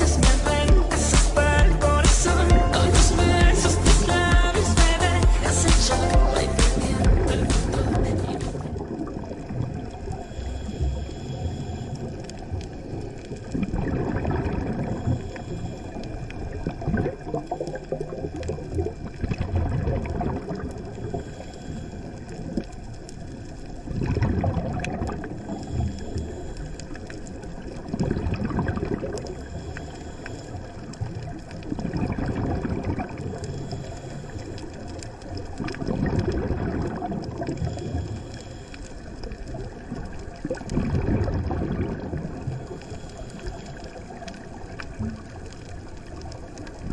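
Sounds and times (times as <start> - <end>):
underwater regulator bubbling: 0.0 - 46.9.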